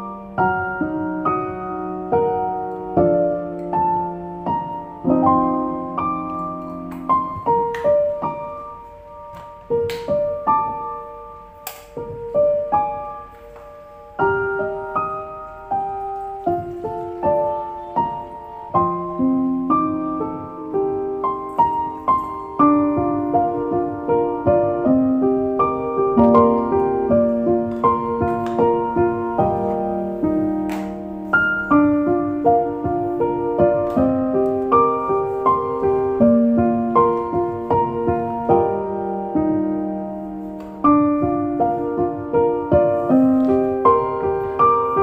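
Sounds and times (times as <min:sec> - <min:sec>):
slow piano music: 0:00.0 - 0:45.0.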